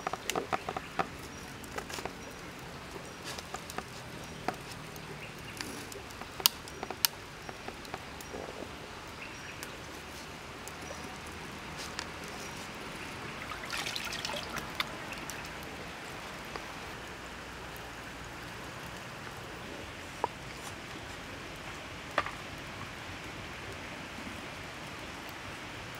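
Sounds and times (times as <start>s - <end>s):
crackling: 0.0s - 22.6s
stream trickling: 0.0s - 23.9s.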